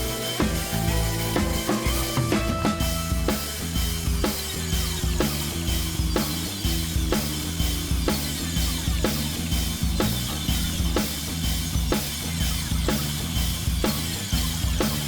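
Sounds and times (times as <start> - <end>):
bass line: 0.0 - 15.0
steady drum beat: 0.0 - 15.0.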